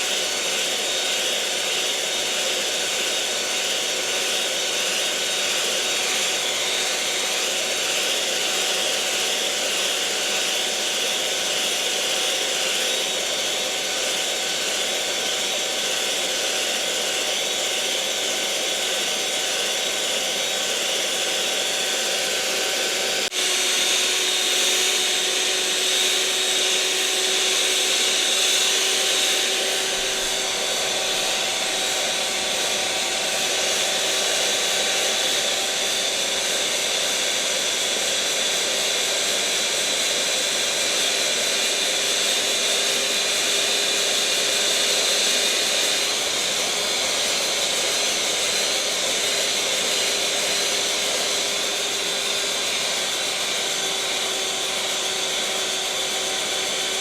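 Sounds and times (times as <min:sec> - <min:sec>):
electric mixer motor whirring: 0:00.0 - 0:57.0.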